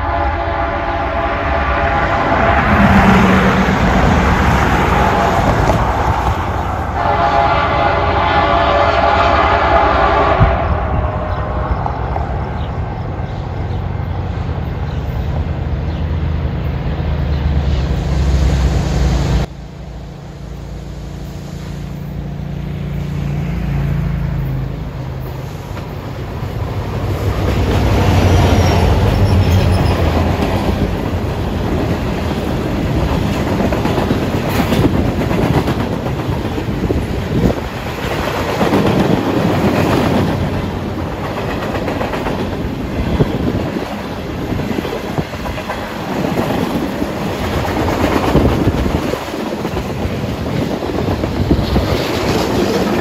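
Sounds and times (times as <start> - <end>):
diesel locomotive engines: 0.0 - 53.0
freight cars rumbling: 0.0 - 53.0.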